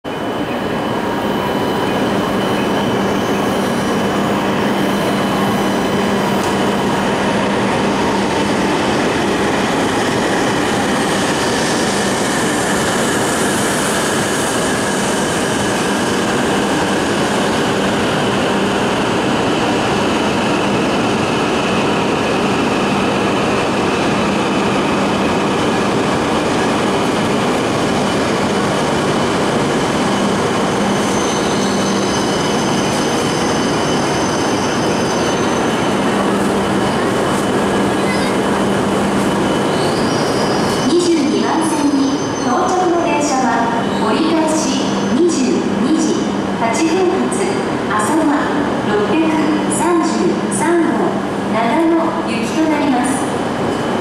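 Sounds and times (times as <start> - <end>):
falling train whine: 0.1 - 54.0
train running noise: 0.1 - 54.0.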